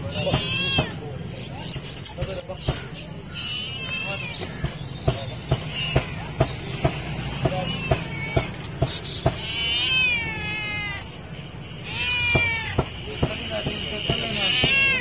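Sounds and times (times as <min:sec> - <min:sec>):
cat meowing: 0:00.0 - 0:01.3, 0:03.2 - 0:04.8, 0:05.5 - 0:15.0.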